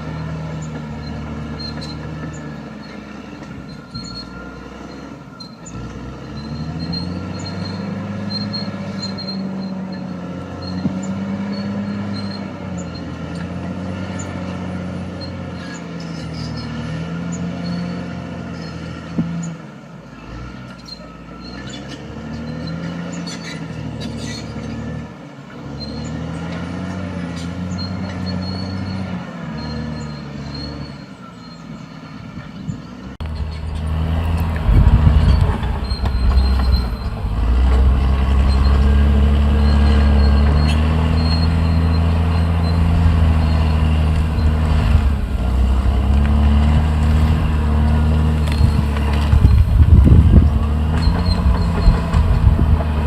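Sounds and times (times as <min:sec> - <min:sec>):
dozer diesel engine labouring: 0:00.0 - 0:53.0
high squeak from running gear: 0:00.6 - 0:13.5, 0:20.8 - 0:24.9, 0:27.4 - 0:53.0.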